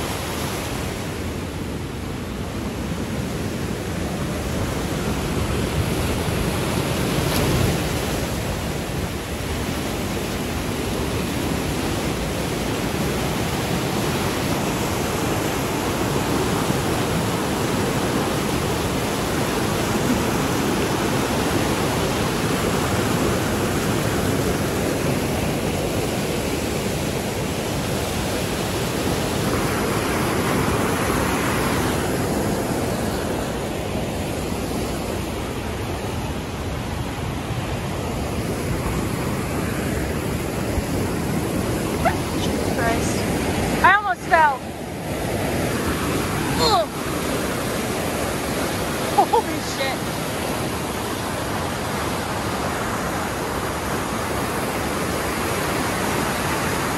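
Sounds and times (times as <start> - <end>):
waterfall rushing over rocks: 0.0 - 3.0, 3.6 - 56.9.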